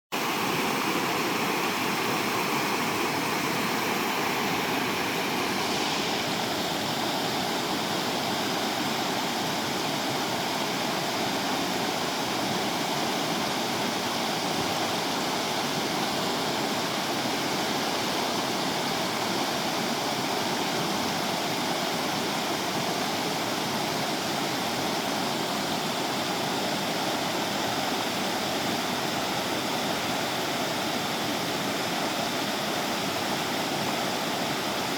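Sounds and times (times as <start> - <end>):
river water rushing over rocks: 0.2 - 34.9.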